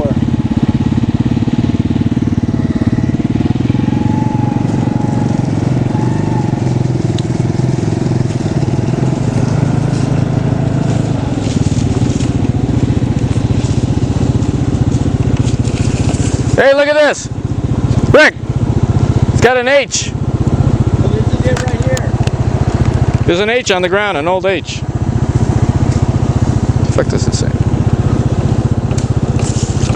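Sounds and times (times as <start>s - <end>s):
vehicle engine rumble: 0.0s - 29.9s.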